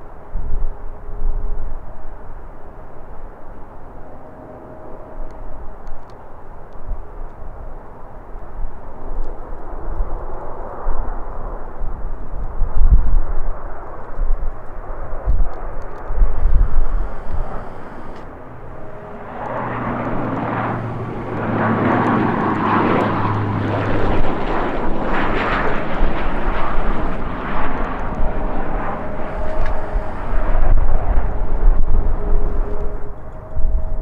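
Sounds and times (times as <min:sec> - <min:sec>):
jet engines roaring past: 0:00.0 - 0:34.0
wind rumbling on microphone: 0:00.0 - 0:34.0.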